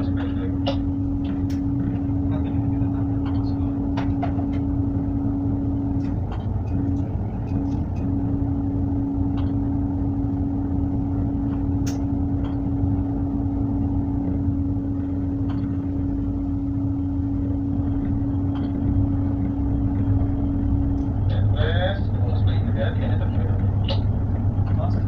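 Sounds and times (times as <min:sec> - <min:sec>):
diesel engine rumbling: 0:00.0 - 0:25.0.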